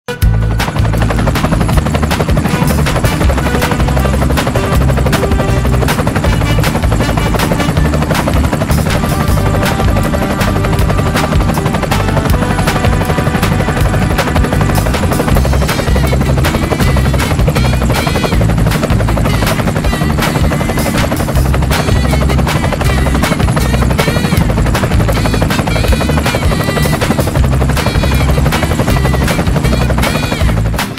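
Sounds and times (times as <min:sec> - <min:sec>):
helicopter rotor: 0:00.1 - 0:30.9
music: 0:00.1 - 0:30.9.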